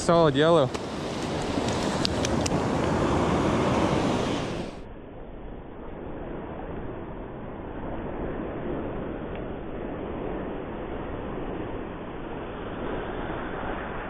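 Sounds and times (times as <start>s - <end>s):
ocean surf washing: 0.0s - 4.9s, 6.2s - 14.0s.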